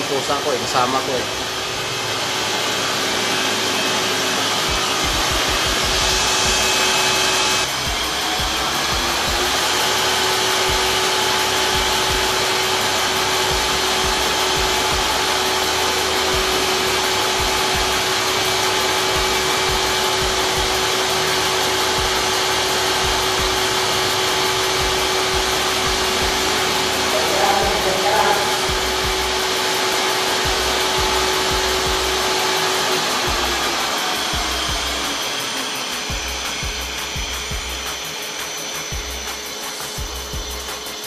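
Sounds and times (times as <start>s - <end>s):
machinery humming and whirring: 0.0s - 41.0s
rising machine tone: 0.0s - 41.0s.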